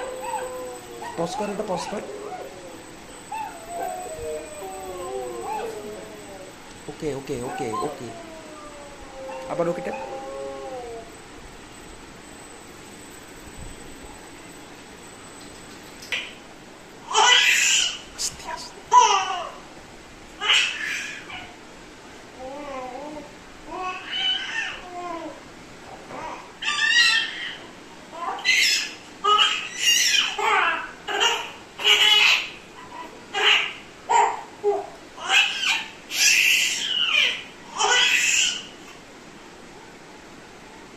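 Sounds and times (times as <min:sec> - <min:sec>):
low background hiss: 0:00.0 - 0:40.9.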